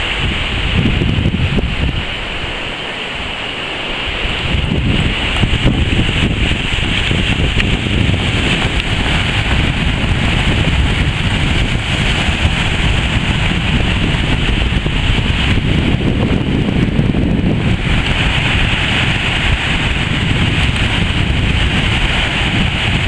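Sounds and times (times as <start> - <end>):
small waves breaking on sand: 0.0 - 23.0
wind buffeting microphone: 0.0 - 23.0.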